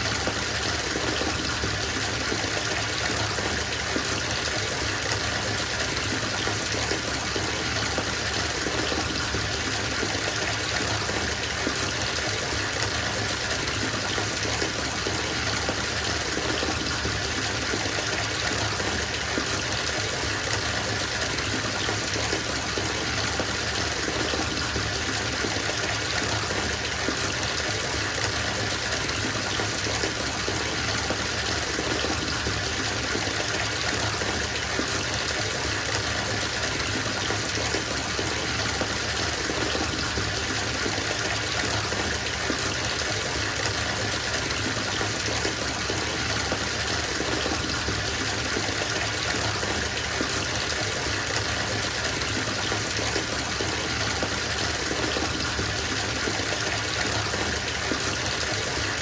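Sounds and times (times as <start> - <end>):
water gushing from tap into tub: 0.0 - 59.0.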